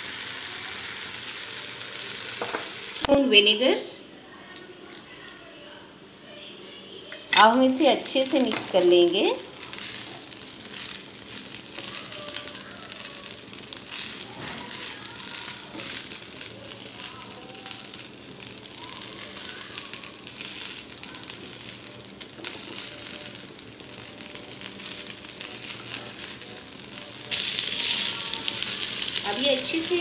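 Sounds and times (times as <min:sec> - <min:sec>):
fried rice sizzling in wok: 0:00.0 - 0:03.1, 0:07.4 - 0:30.0.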